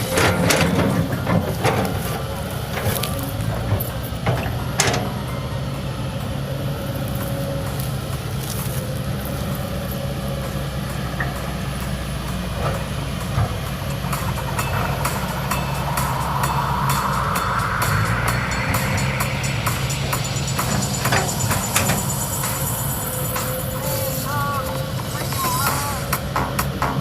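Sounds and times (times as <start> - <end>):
excavator diesel engine droning: 0.0 - 27.0.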